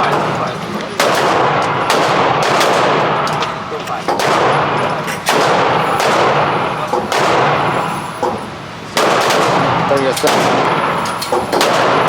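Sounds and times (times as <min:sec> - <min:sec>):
gunshots with echoing tail: 0:00.0 - 0:12.0.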